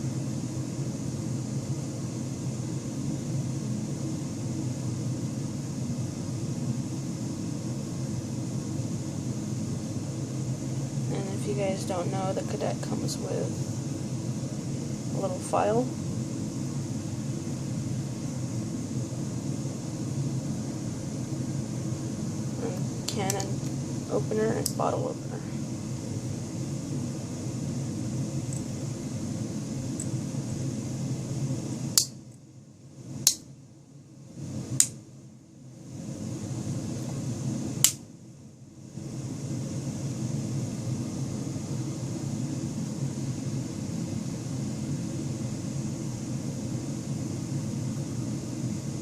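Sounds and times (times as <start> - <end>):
air conditioner humming: 0.0 - 49.0.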